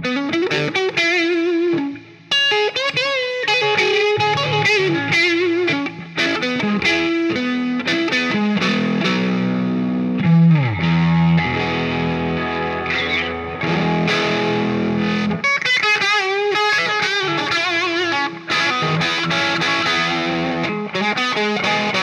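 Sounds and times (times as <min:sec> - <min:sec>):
electric guitar through amplifier: 0:00.0 - 0:22.0.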